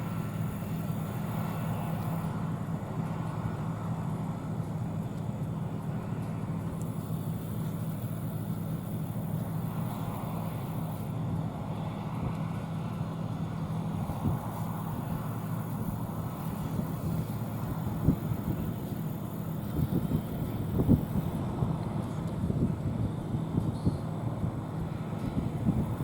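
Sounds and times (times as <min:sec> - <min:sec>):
combine engine drone: 0:00.0 - 0:26.0.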